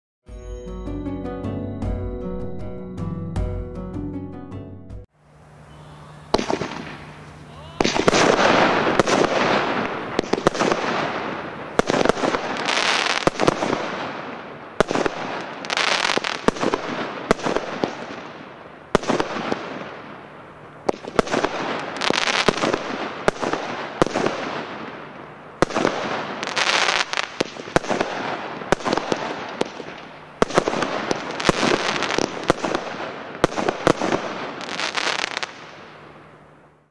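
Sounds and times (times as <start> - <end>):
firework bursts: 5.4 - 36.4
firework sparks crackling: 5.9 - 36.2.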